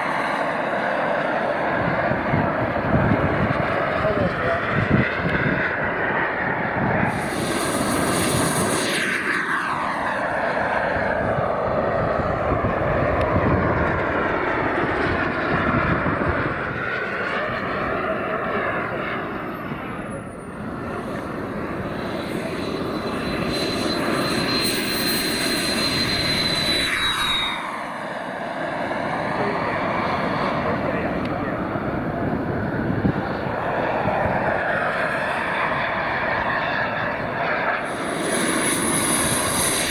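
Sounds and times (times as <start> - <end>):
model jet engine whining: 0.0 - 39.9
model jet flying past: 0.0 - 39.9.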